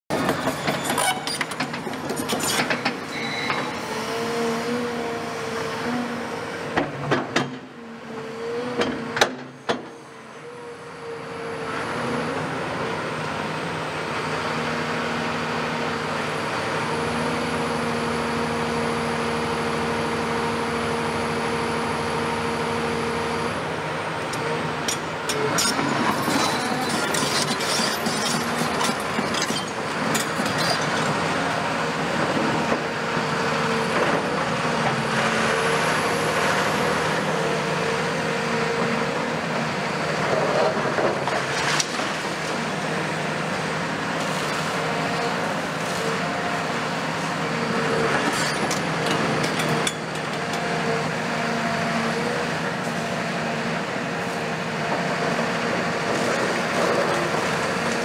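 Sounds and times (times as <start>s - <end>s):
excavator diesel engine: 0.1s - 58.0s.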